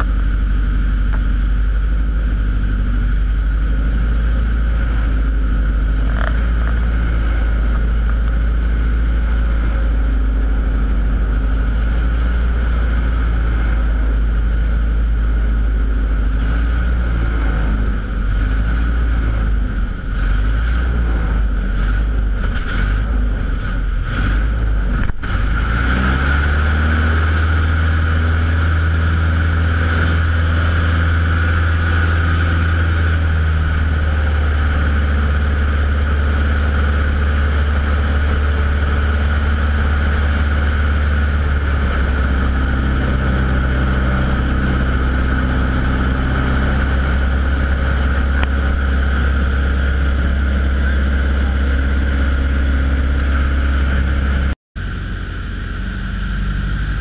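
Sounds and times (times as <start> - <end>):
plane engine and propeller droning: 0.0 - 57.0.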